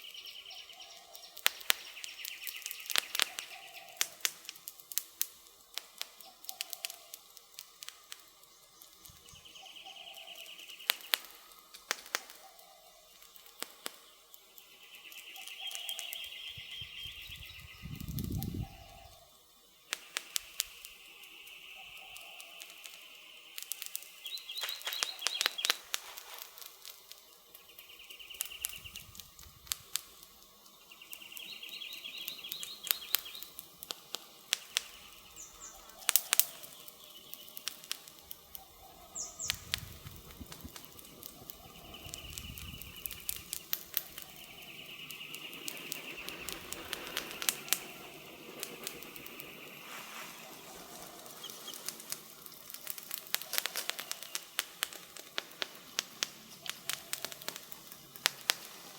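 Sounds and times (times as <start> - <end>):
birds chirping: 0.0 - 58.9
wood fire crackling and popping: 0.0 - 58.9.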